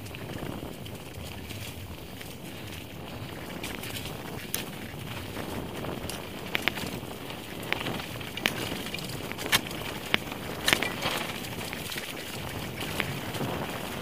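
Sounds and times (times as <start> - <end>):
bike rattling over trail: 0.0 - 14.0
tyre and wind rush: 0.0 - 14.0.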